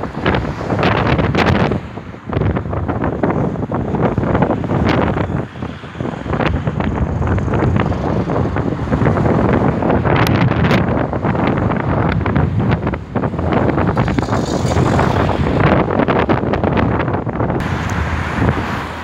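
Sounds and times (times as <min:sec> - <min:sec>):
cars driving past: 0:00.0 - 0:19.0
wind buffeting microphone: 0:00.0 - 0:19.0.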